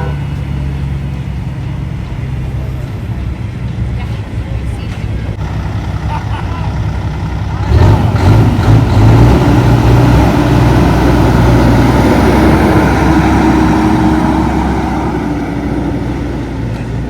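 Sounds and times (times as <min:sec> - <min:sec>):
diesel truck engine driving past: 0:00.0 - 0:17.0.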